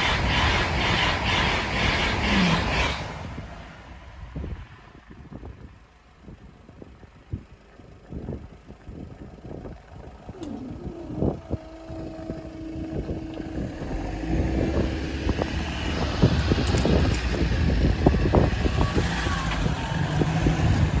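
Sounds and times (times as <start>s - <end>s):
cars passing close: 0.0s - 6.3s, 9.8s - 21.0s.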